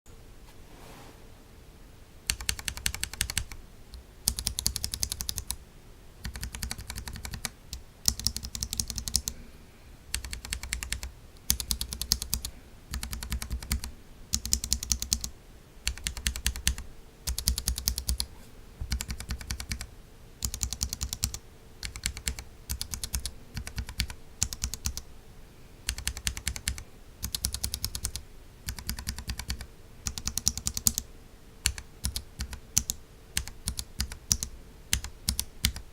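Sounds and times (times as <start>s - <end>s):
mechanical keyboard typing: 2.3s - 5.6s, 6.2s - 9.3s, 10.1s - 18.3s, 18.9s - 25.0s, 25.9s - 31.0s, 31.6s - 35.9s.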